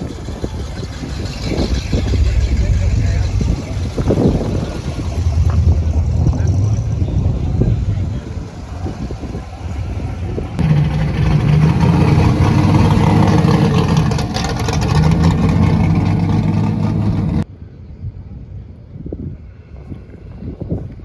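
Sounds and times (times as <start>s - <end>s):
car engine running loudly: 0.0s - 17.4s.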